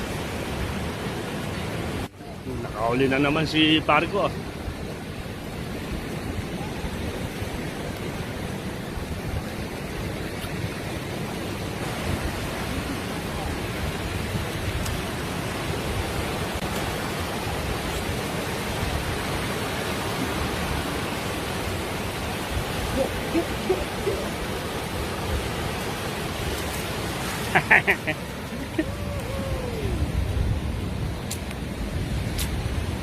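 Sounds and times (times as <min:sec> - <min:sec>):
steady outdoor rushing noise: 0:00.0 - 0:33.0.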